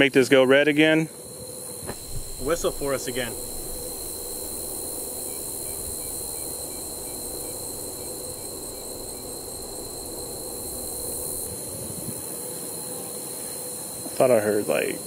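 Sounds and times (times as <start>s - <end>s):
insect chorus trilling: 0.0s - 15.0s
low background noise: 0.0s - 15.0s.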